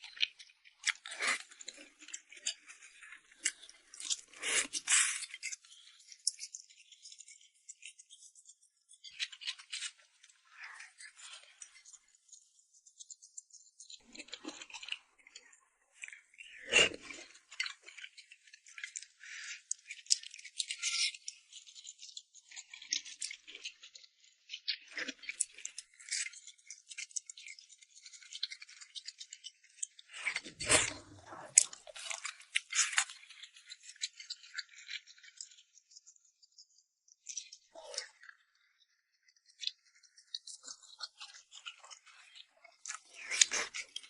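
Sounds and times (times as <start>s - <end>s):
wet crackly chewing: 0.0s - 44.0s.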